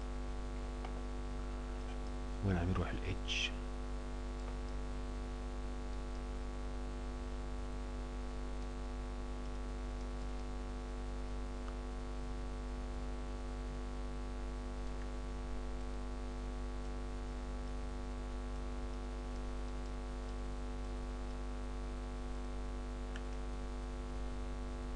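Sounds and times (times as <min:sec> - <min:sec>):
mains hum: 0:00.0 - 0:24.9.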